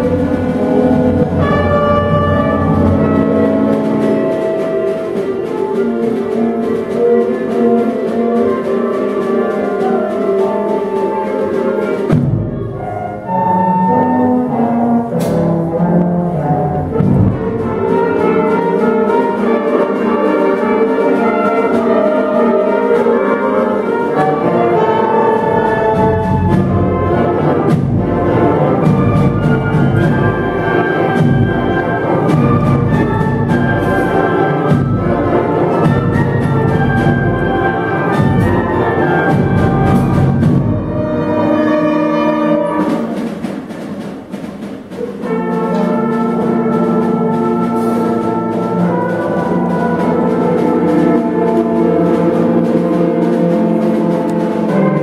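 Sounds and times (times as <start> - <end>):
percussion beat: 0.0 - 20.1, 23.9 - 42.0, 42.6 - 55.0
concert band playing: 0.0 - 55.0.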